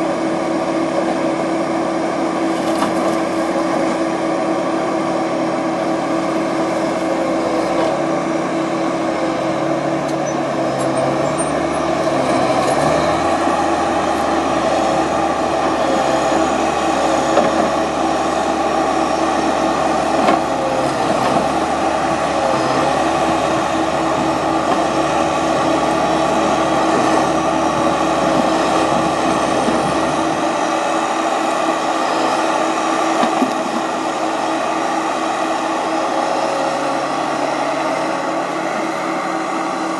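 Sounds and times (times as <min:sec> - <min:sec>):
diesel engine running under load: 0:00.0 - 0:39.9
hydraulic crane whine: 0:00.0 - 0:39.9.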